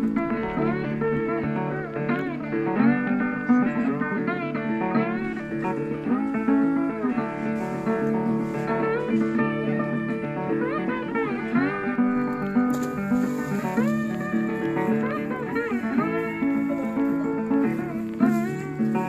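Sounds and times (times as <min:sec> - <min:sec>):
sliding guitar tune: 0:00.0 - 0:19.0
steady lower accompaniment: 0:00.0 - 0:19.0.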